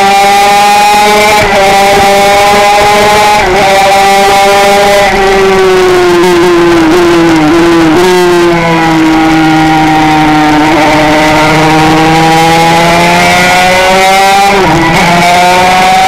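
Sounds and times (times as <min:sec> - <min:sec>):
two-stroke race engine revving: 0:00.0 - 0:16.0.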